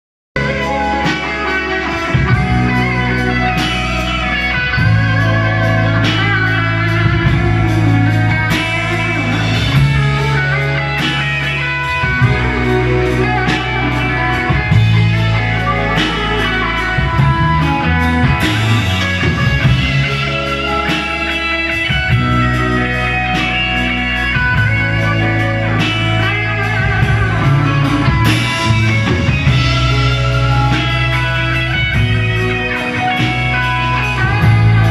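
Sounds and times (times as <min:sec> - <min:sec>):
electric guitar: 0:00.4 - 0:34.9
low bass notes: 0:00.4 - 0:34.9
rock band playing: 0:00.4 - 0:34.9
steady drum beat: 0:00.4 - 0:34.9.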